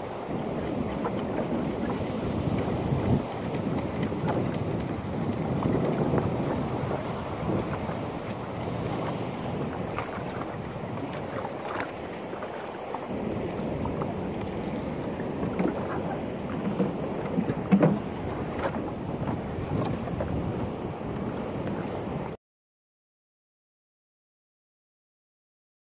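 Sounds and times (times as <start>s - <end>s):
water lapping at boat: 0.0s - 22.4s
wind buffeting microphone: 0.0s - 22.4s.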